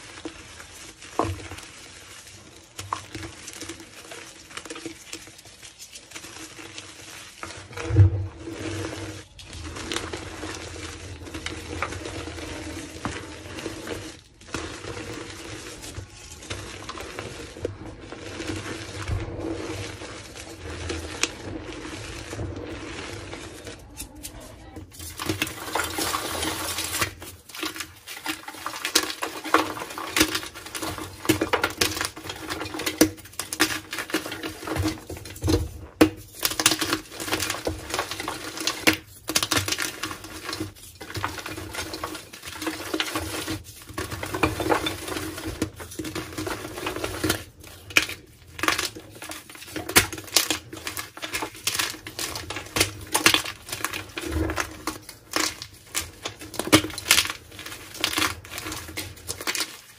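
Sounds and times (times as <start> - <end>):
chalk crunching and crackling: 0.0 - 59.9
loud chalk cracks: 0.0 - 59.9.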